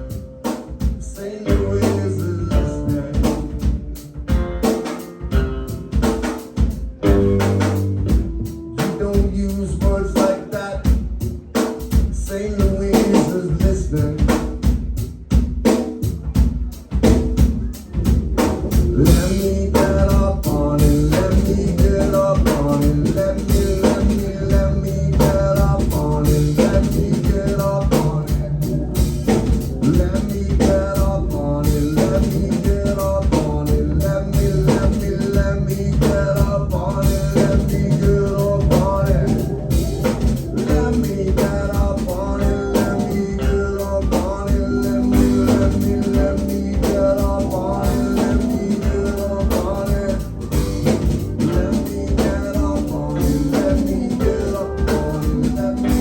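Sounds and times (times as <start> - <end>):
drum kit with rimshots: 0.0 - 56.0
live band playing: 0.0 - 56.0.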